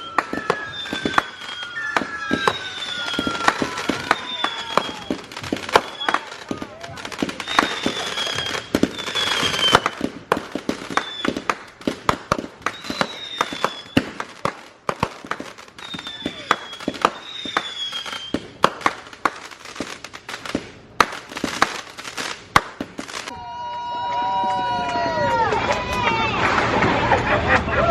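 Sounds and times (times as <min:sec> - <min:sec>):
fireworks popping and banging: 0:00.0 - 0:23.4
firework whistles: 0:00.0 - 0:23.5.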